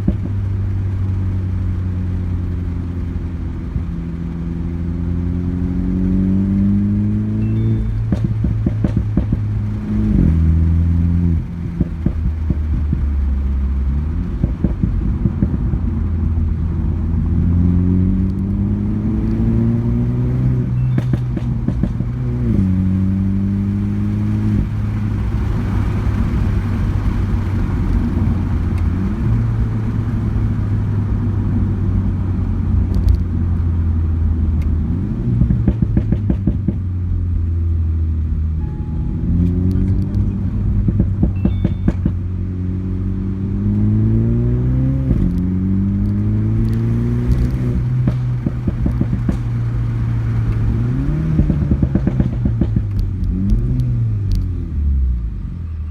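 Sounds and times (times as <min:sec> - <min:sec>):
car engine accelerating: 0:00.0 - 0:55.9
exhaust crackles and pops: 0:00.0 - 0:55.9.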